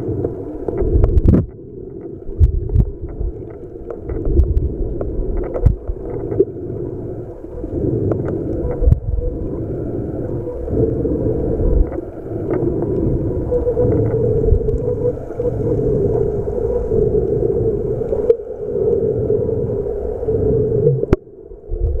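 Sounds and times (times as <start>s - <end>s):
dull hum: 0.0s - 22.0s
low underwater rumble of water: 0.0s - 22.0s.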